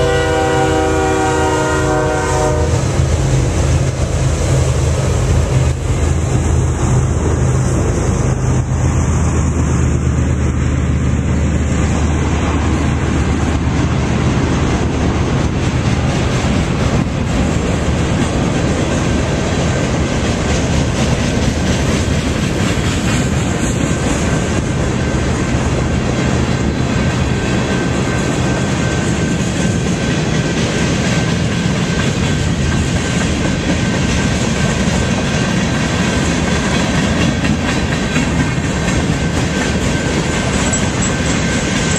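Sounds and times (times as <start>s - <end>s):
diesel locomotive engine droning: 0.0s - 41.9s
freight train rolling past: 0.0s - 41.9s
wheels clacking on rails: 0.0s - 41.9s.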